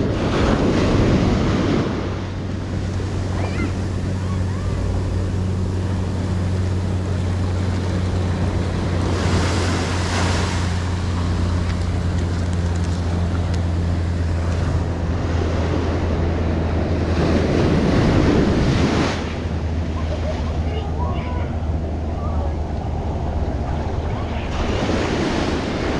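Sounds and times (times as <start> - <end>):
ocean surf breaking: 0.0 - 25.9
wind rumbling on microphone: 0.0 - 25.9.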